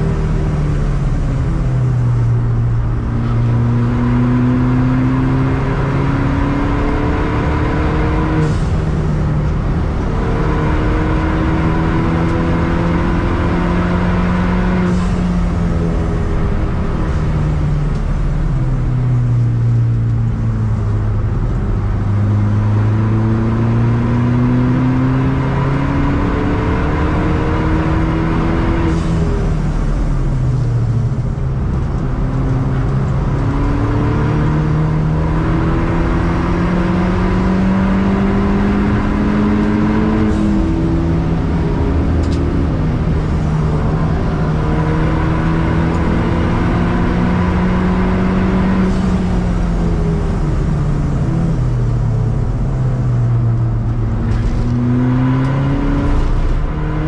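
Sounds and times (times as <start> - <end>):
car engine under full throttle: 0.0 - 57.0.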